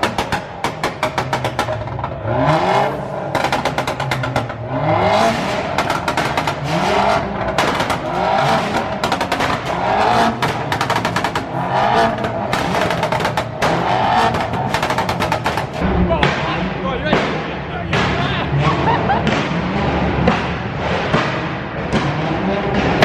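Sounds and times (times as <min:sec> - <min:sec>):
car engines revving: 0:00.0 - 0:23.0
exhaust crackling pops and bangs: 0:00.0 - 0:23.0.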